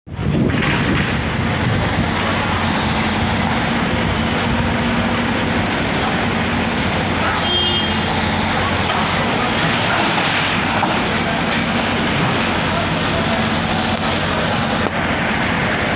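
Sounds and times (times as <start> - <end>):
heavy machine engine running: 0.1 - 15.9.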